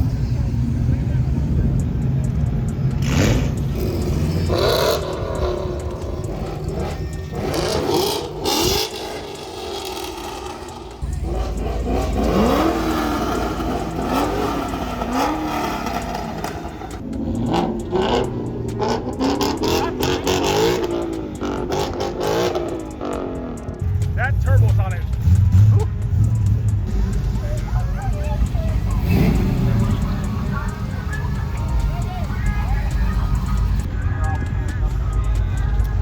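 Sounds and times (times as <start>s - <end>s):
car engines revving: 0.0s - 36.0s
traffic rumble: 0.0s - 36.0s.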